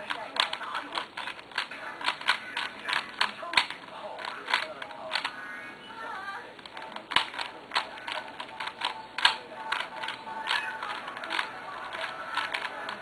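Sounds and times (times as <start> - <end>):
plastic puzzle cube clicking: 0.0 - 5.4, 6.6 - 13.0.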